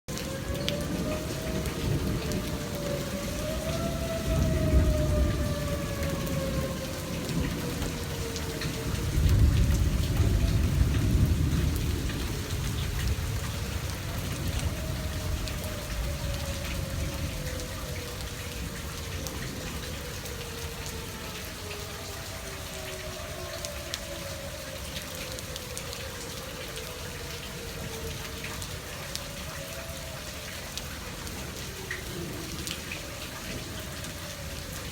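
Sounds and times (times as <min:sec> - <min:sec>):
rain patter: 0:00.0 - 0:34.9
warning sirens wailing: 0:00.1 - 0:34.9.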